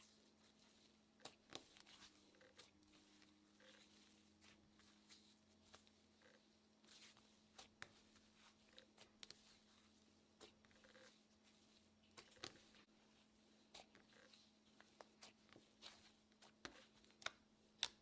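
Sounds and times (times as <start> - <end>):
low steady hum: 0.0 - 18.0
soft rustles: 0.0 - 18.0.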